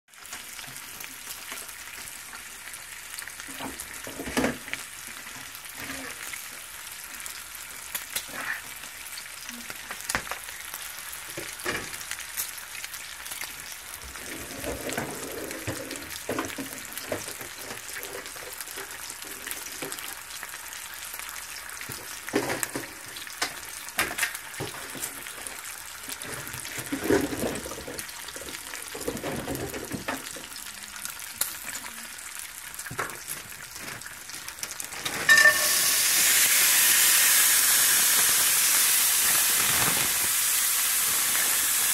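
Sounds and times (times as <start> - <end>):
bacon sizzling: 0.1 - 41.9.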